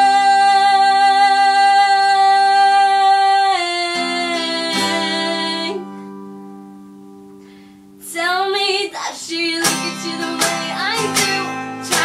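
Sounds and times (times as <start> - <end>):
woman singing: 0.0 - 6.0, 8.0 - 12.0
acoustic guitar: 0.0 - 12.0.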